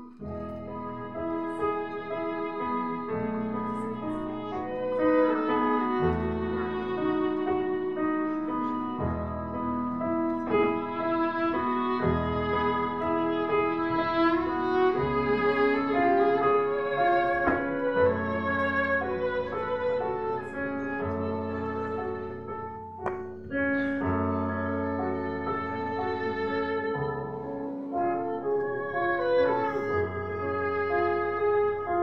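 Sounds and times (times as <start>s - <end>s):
piano accompaniment: 0.0s - 32.0s
violin slow melody: 0.0s - 32.0s.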